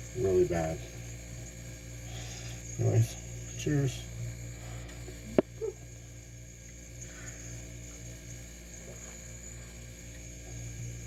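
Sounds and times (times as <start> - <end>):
faint high whine: 0.0 - 11.0
low electrical hum: 0.0 - 11.0.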